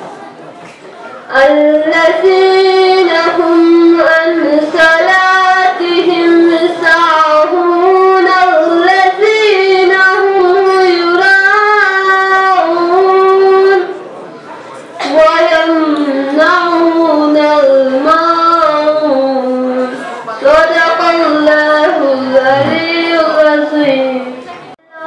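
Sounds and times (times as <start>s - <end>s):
melodic chanted recitation: 1.0s - 14.0s, 15.0s - 25.0s.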